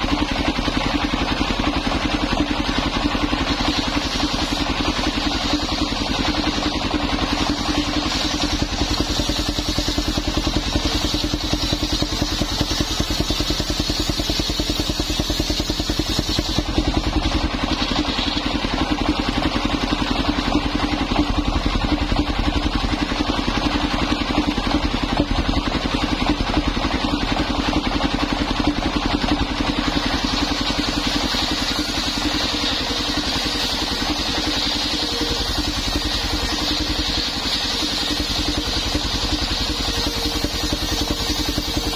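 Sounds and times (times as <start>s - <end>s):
circular blade sawing wood: 0.0s - 41.9s
sawmill engine running: 0.0s - 41.9s.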